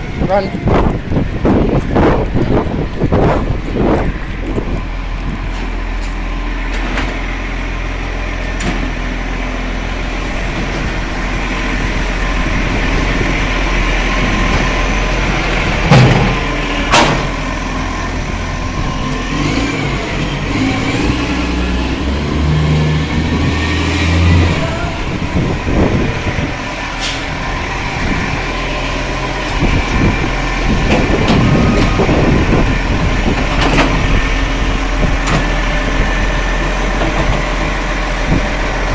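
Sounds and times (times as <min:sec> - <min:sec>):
garbage truck engine running: 0:00.0 - 0:38.9
traffic rumble: 0:00.0 - 0:38.9.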